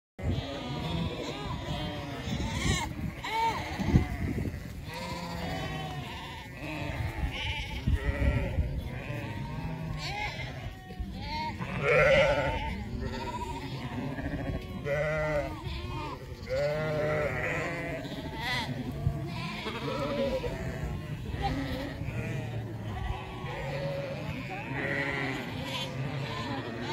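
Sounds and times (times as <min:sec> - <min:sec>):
sheep bleating: 0:00.2 - 0:26.9.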